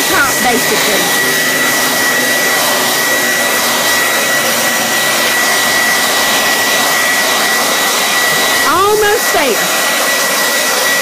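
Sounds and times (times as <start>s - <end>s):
hot-air dryer blowing with whine: 0.0s - 11.0s.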